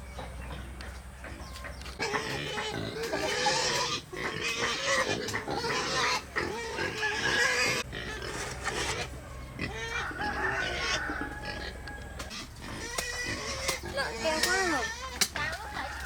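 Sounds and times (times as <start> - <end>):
pigs squealing: 2.0 - 16.0.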